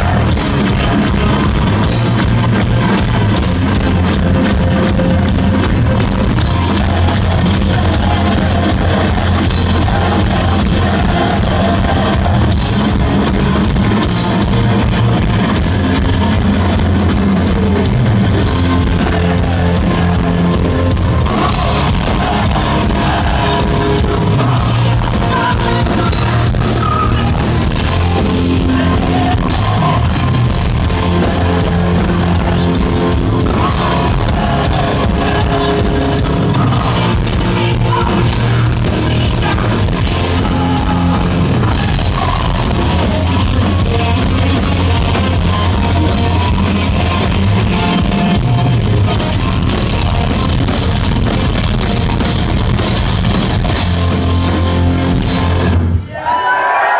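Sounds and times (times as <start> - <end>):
heavy metal band playing live: 0.0 - 56.2.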